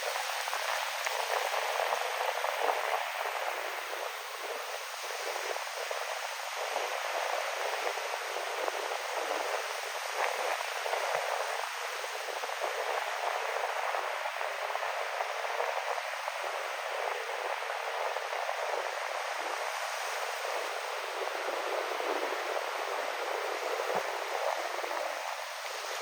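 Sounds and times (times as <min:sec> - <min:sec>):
ocean waves: 0:00.0 - 0:26.0
wind: 0:00.0 - 0:26.0.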